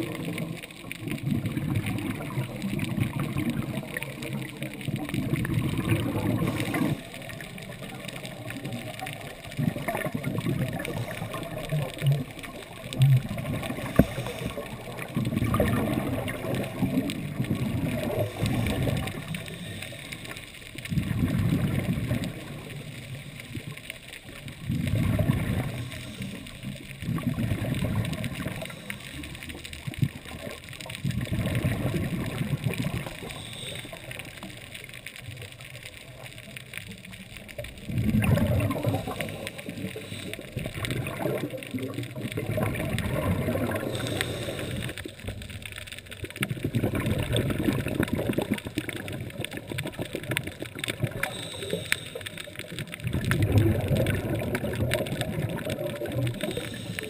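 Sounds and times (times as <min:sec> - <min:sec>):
underwater exhaust bubbles gurgling: 0:00.0 - 0:57.0
steady hiss: 0:02.1 - 0:31.2, 0:32.2 - 0:46.5, 0:47.6 - 0:53.4, 0:54.9 - 0:57.0.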